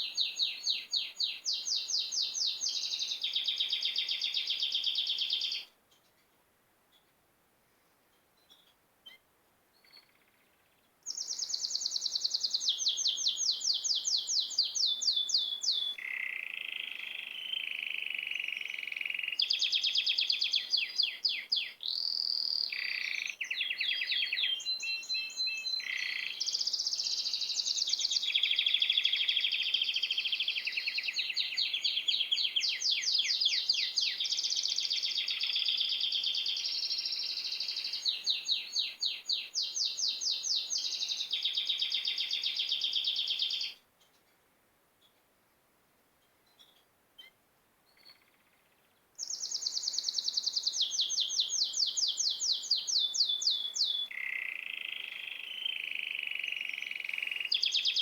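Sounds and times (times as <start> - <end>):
songbirds chirping and singing: 0.0 - 6.1, 11.1 - 43.8, 48.0 - 58.0.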